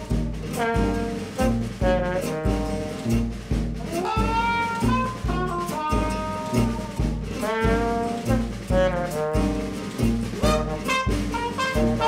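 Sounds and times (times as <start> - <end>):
jazz brass melody: 0.0 - 12.0
pulsing bass beat: 0.0 - 12.0.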